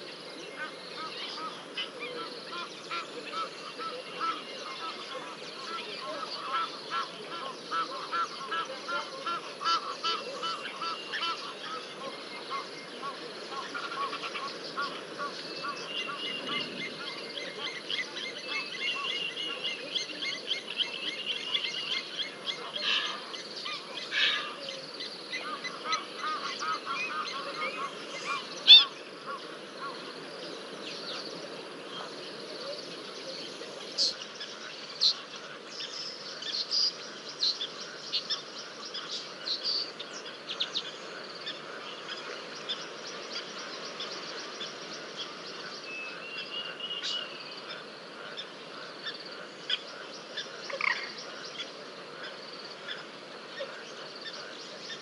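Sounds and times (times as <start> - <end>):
birds chattering: 0.0 - 55.0.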